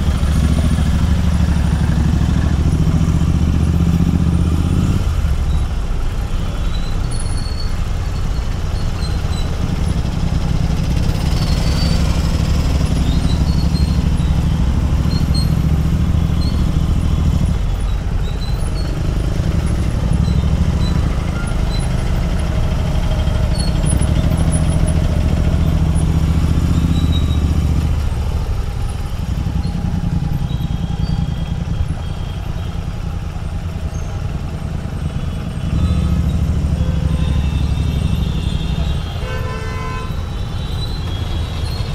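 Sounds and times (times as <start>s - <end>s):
motorcycle engine rumbling: 0.0s - 41.9s.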